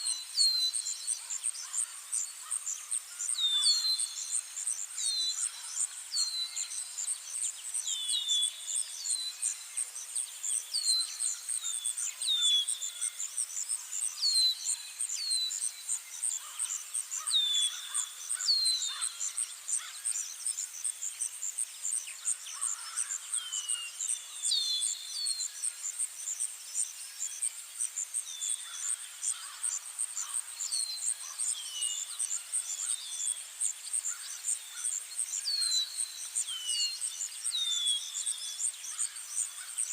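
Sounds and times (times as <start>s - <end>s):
insects trilling: 0.7s - 39.9s.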